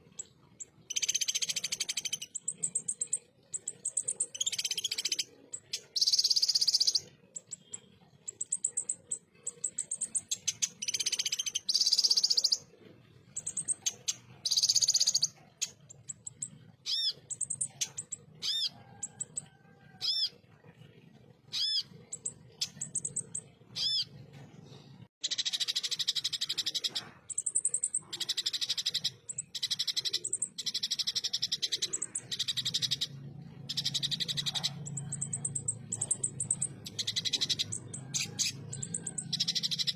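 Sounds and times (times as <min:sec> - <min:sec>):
bird chattering trills: 0:00.0 - 0:20.4, 0:21.5 - 0:24.1, 0:25.2 - 0:39.9.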